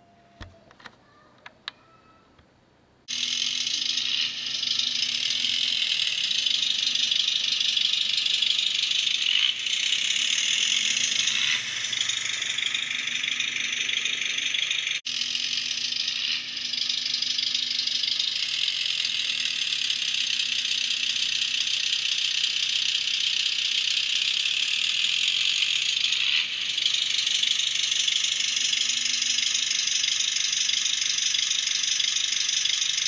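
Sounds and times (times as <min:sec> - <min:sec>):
steady low hum: 0:02.8 - 0:32.8.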